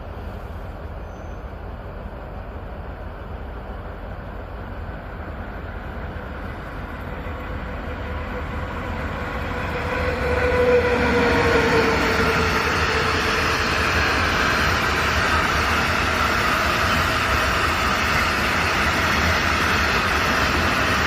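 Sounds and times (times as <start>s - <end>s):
train running noise: 0.0s - 21.0s.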